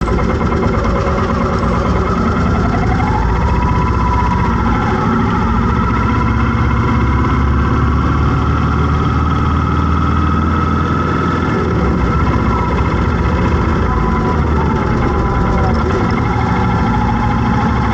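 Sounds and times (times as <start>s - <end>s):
high engine whine: 0.0s - 17.9s
vehicle engines idling: 0.0s - 17.9s.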